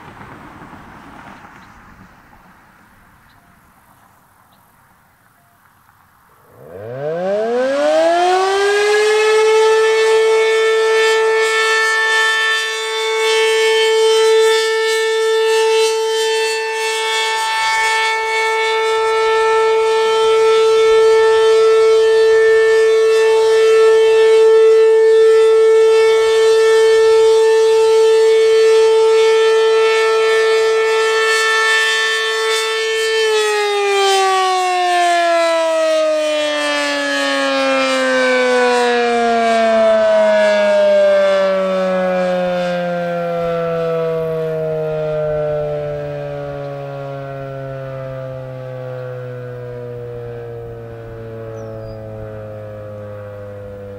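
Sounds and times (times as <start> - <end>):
siren alert tone winding down: 6.4 - 53.9.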